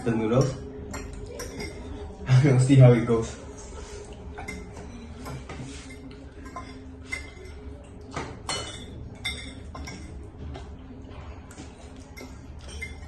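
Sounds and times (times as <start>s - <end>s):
utensils clinking against a bowl: 0.0s - 13.0s.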